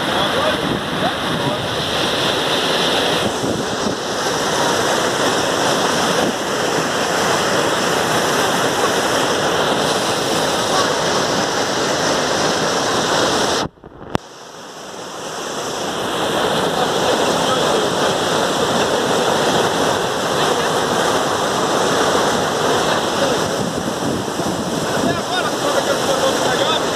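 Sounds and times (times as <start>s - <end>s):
floodwater rushing: 0.0s - 26.9s.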